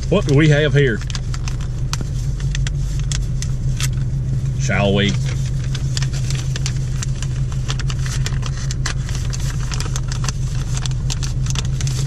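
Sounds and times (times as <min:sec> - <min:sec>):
car engine idling: 0:00.0 - 0:12.0
paper and packaging rustling: 0:00.0 - 0:12.0.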